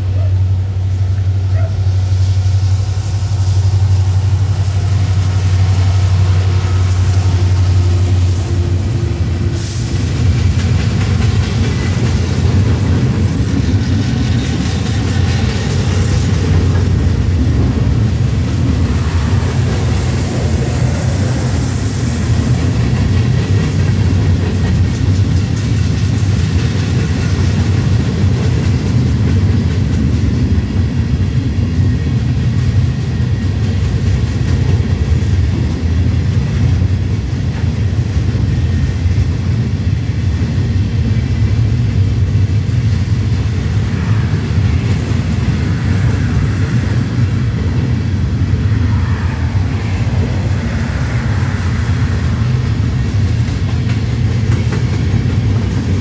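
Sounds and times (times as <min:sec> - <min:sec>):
diesel locomotive engine drone: 0:00.0 - 0:56.0
freight cars rumbling on rails: 0:00.0 - 0:56.0.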